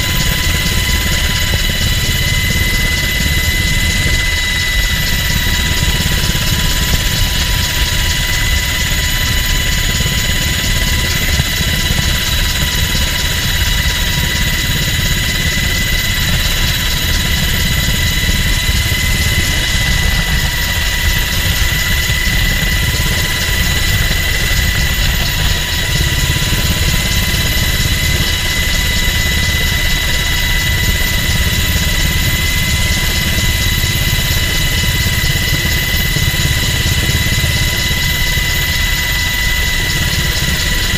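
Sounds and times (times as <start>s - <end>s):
helicopter engine and rotor rumble: 0.0s - 40.9s
high-pitched turbine whine: 0.0s - 40.9s.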